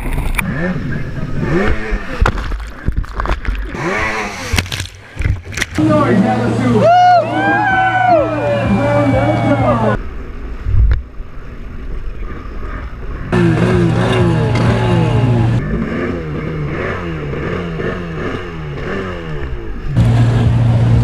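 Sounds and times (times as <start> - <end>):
jet ski engine revving: 0.4 - 2.8, 3.6 - 10.0, 12.1 - 21.0.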